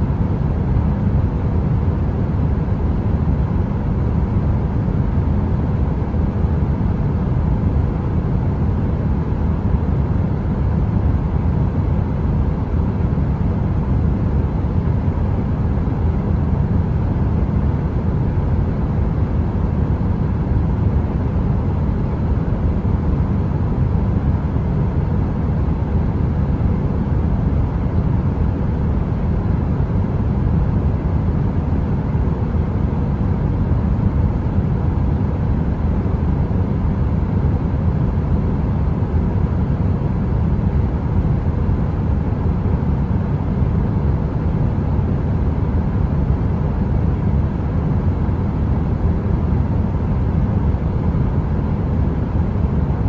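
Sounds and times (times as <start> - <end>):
faint hum: 0.0 - 53.0.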